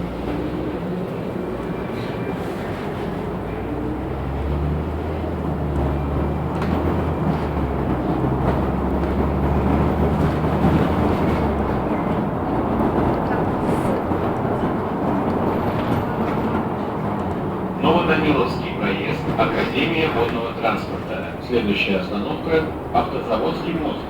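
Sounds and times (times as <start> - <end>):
bus engine and road rumble: 0.0 - 24.0
low engine hum: 0.0 - 24.0.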